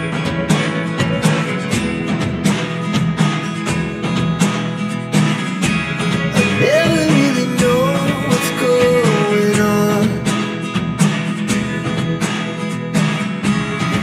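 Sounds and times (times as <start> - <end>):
steady beat: 0.0 - 14.0
strummed acoustic guitar music: 0.0 - 14.0.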